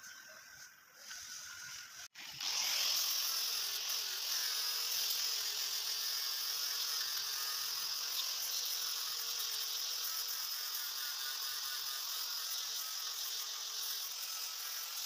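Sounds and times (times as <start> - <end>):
angle grinder grinding steel: 1.0 - 15.0.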